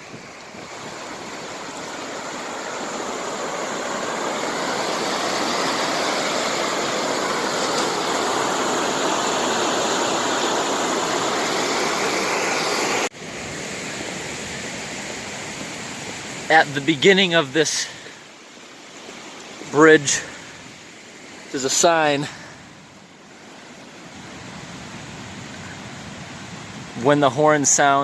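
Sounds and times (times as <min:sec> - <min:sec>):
water rushing from overflow channel: 0:00.0 - 0:28.0.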